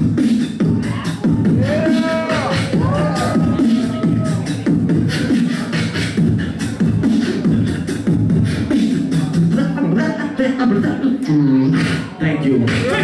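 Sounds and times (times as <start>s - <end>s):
beatboxing through microphone: 0.0s - 13.0s.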